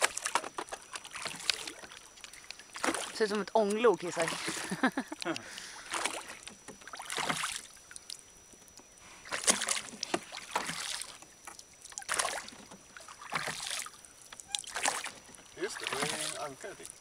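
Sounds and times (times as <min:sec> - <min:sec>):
oar splashing water: 0:00.0 - 0:17.0.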